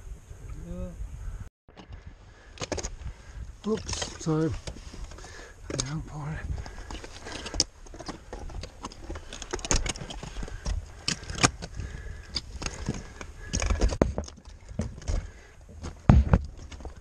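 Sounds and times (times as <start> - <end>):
metal climbing gear clinking: 1.7 - 17.0
footsteps on rough ground: 2.5 - 17.0.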